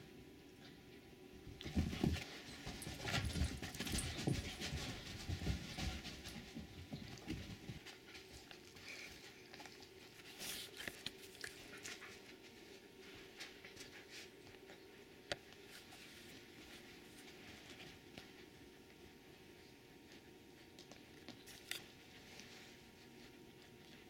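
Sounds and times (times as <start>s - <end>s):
dogs pattering and scuffling on carpet: 1.4s - 24.0s.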